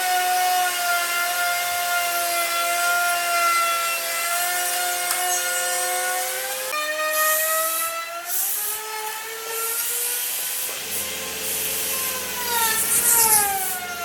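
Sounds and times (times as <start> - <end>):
power tool cutting wood: 0.0 - 14.0.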